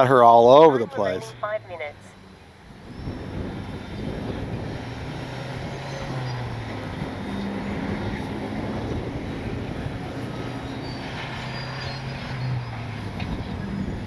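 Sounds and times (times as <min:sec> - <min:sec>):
heavy machinery drone: 0:00.0 - 0:14.0
strong wind buffeting microphone: 0:02.0 - 0:14.0.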